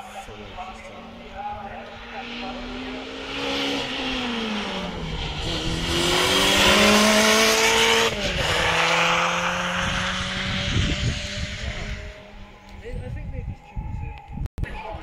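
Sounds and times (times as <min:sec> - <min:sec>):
rally car engine accelerating: 0:00.0 - 0:12.6.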